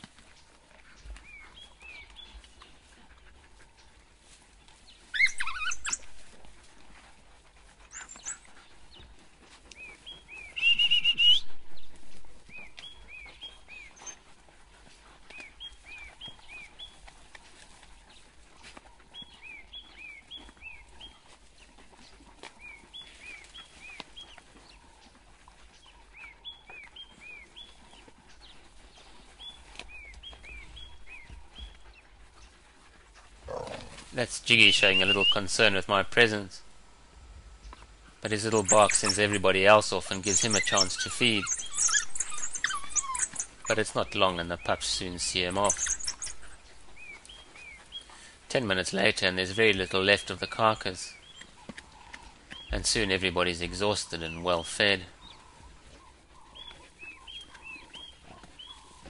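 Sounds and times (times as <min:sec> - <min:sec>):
wild dogs twittering: 0:04.6 - 0:36.9, 0:37.5 - 0:59.0.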